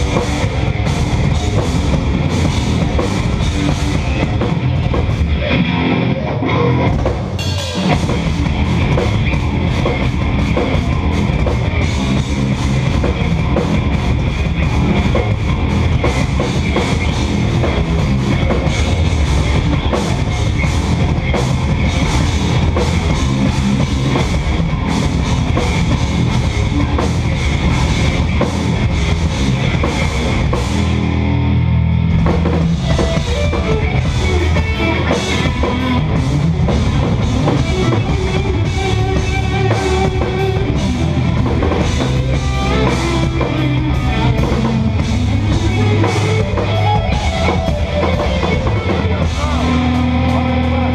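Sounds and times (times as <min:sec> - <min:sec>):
drum kit playing: 0:00.0 - 0:50.9
electric guitars riffing: 0:00.0 - 0:50.9.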